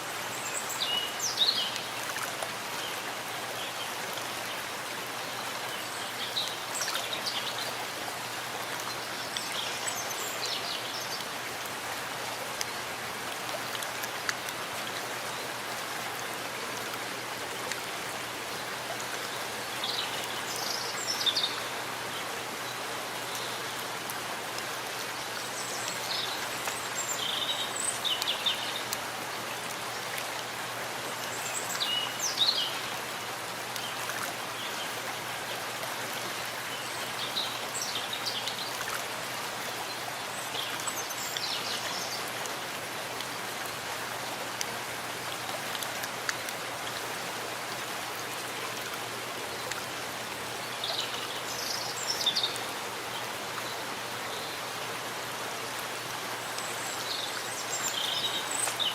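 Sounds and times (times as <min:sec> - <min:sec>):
steady rain falling: 0:00.0 - 0:58.9
water running and splashing: 0:00.0 - 0:58.9.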